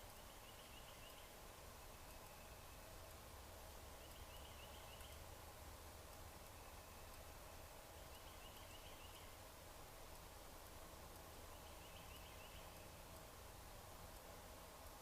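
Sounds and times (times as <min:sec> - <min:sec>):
outdoor hiss and low hum: 0:00.0 - 0:15.0.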